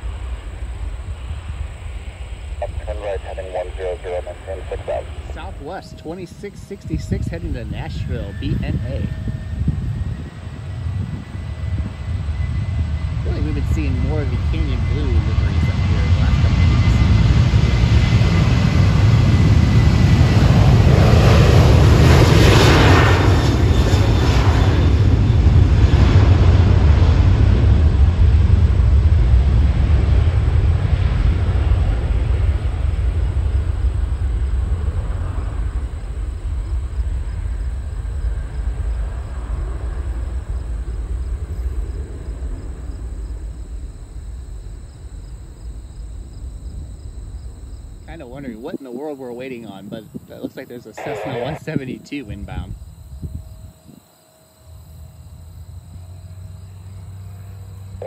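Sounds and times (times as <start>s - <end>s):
jet airliner engines roaring: 0.0s - 58.0s.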